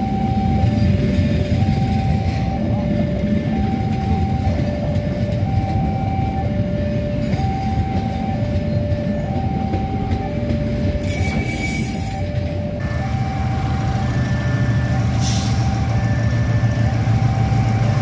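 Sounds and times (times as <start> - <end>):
train coaches rumbling past: 0.0 - 18.0
two-tone crossing alarm: 0.0 - 18.0.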